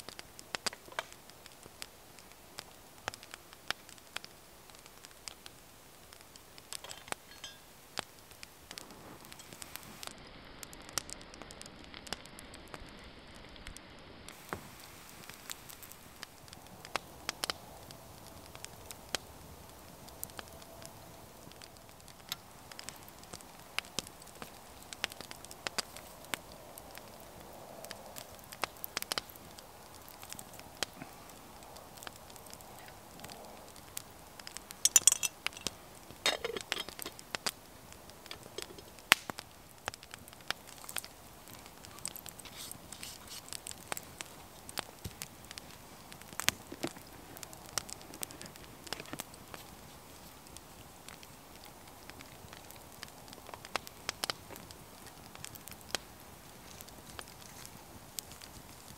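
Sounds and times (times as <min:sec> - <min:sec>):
sharp fire pops: 0:00.0 - 0:13.0, 0:13.6 - 0:58.9
wood fire crackling: 0:00.0 - 0:58.9.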